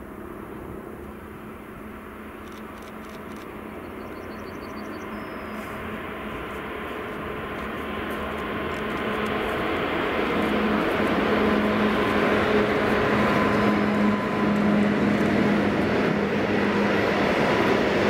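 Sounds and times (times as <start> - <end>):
train wheels rumbling on track: 0.2 - 18.0.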